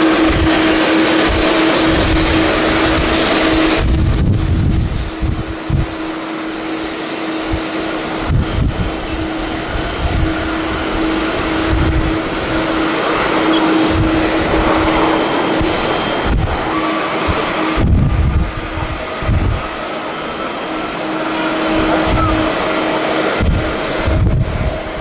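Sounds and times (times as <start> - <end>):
jet engines running: 0.0 - 25.0
wind buffeting microphone: 0.0 - 25.0.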